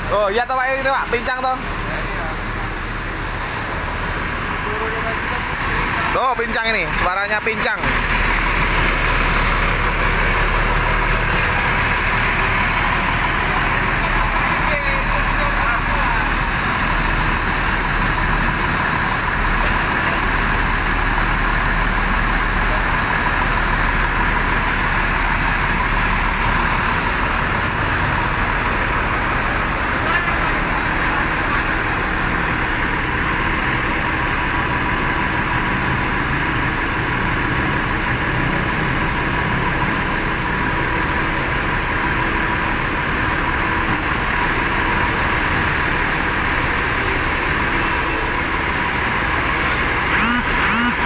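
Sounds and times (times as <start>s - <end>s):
diesel engine idling unevenly: 0.0s - 51.0s.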